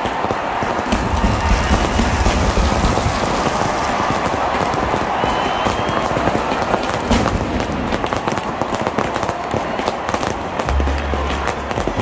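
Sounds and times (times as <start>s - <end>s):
firework pops and crackles: 0.0s - 12.0s.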